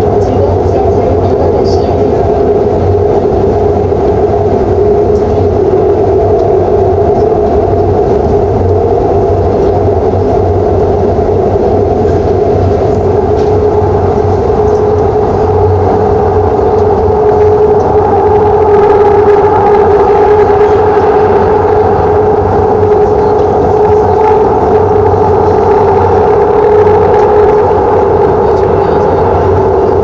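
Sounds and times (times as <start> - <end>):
train motor hum: 0.0 - 30.0
train wheels rumbling on rail: 0.0 - 30.0.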